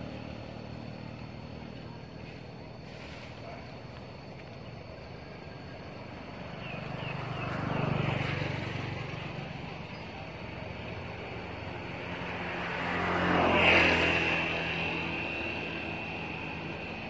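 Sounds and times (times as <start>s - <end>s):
vehicles passing by: 0.0s - 17.0s.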